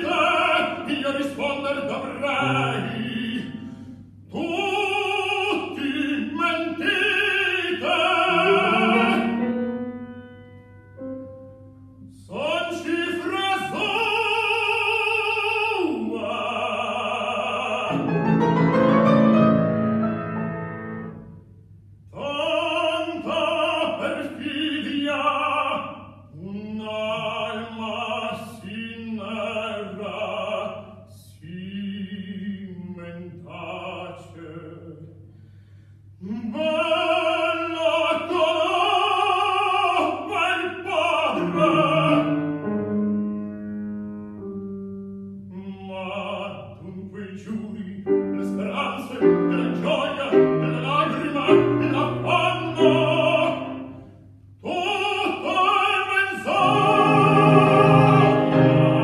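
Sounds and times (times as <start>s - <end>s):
operatic tenor singing: 0.0s - 9.9s, 12.0s - 21.2s, 22.1s - 35.0s, 36.2s - 42.7s, 45.5s - 54.0s, 54.6s - 59.0s
grand piano: 0.0s - 35.0s, 36.5s - 59.0s.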